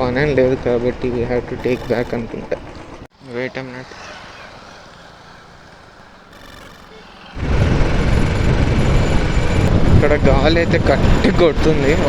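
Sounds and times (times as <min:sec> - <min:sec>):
wind buffeting microphone: 0:00.0 - 0:03.1, 0:03.8 - 0:12.0.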